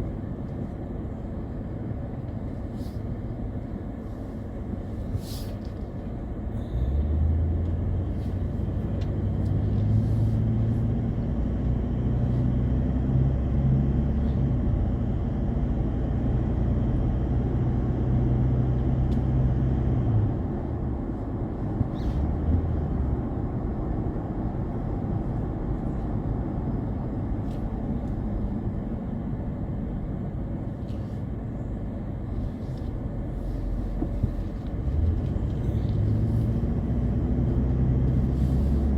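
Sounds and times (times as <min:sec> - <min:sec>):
car engine and tyres humming: 0:00.0 - 0:38.9
rumbling road noise: 0:00.0 - 0:38.9.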